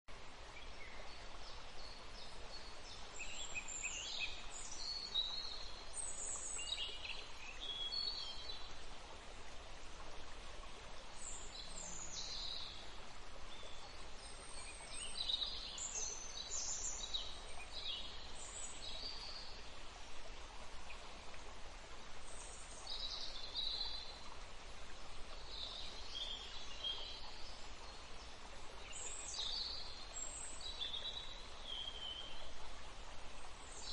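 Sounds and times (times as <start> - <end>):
background hiss: 0.1 - 33.9.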